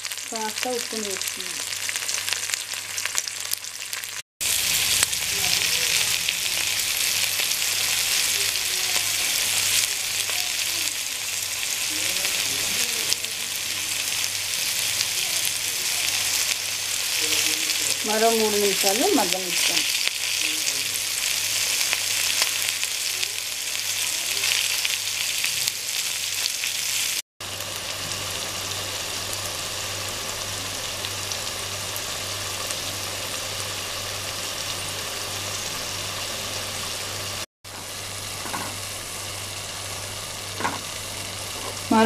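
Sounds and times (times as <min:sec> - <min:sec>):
oil sizzling in a pan: 0:00.0 - 0:42.0.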